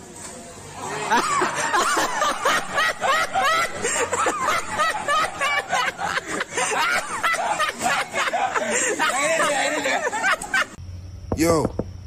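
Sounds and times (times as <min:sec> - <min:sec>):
people giggling: 0:00.8 - 0:10.8.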